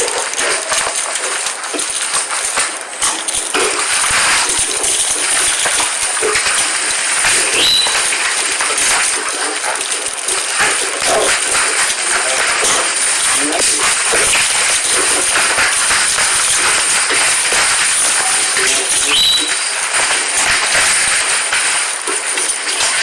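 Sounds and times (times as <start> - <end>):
plastic bag crinkling and tearing: 0.0 - 23.0.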